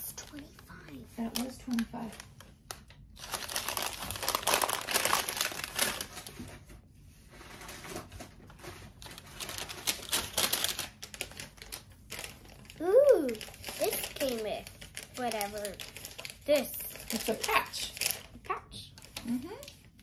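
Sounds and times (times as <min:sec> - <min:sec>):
wrapping crinkling: 0:00.0 - 0:06.7, 0:07.3 - 0:20.0.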